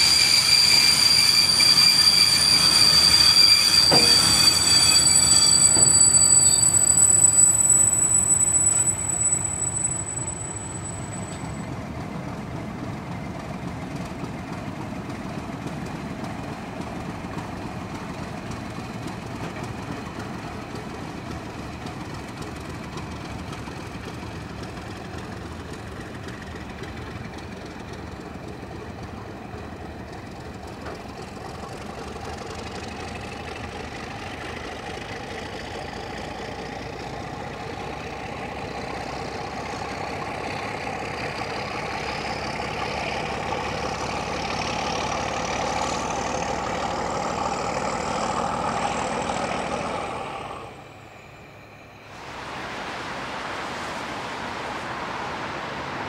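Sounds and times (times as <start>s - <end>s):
diesel engine whining: 0.0s - 56.0s.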